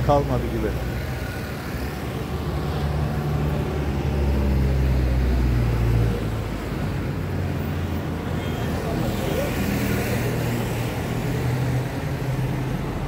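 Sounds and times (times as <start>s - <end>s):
vehicle passing by: 0.4s - 13.0s.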